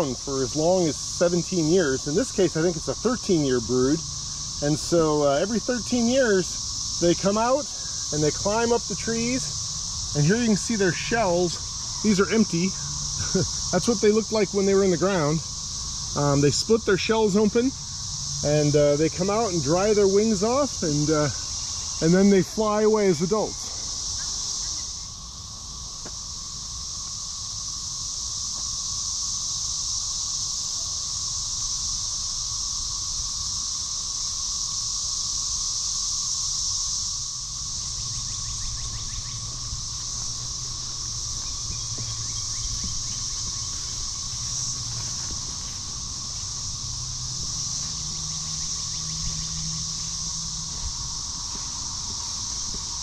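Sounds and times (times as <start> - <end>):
cicadas droning: 0.0 - 53.0.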